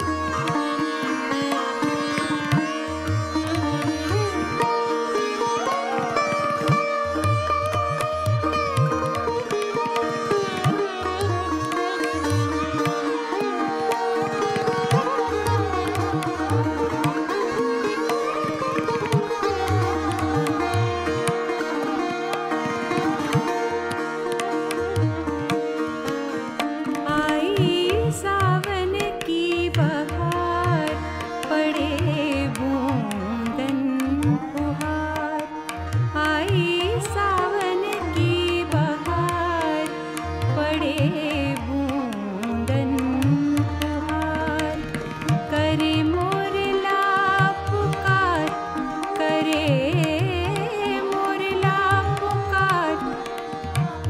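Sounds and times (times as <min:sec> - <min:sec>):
tabla strokes: 0:00.0 - 0:54.0.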